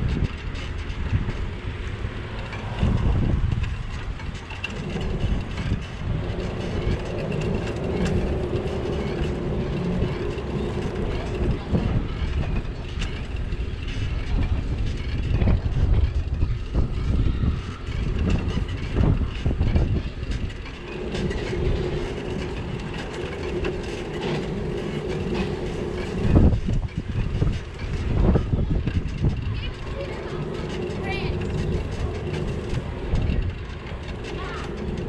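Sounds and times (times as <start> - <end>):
bicycle rolling over brick street: 0.0 - 35.0.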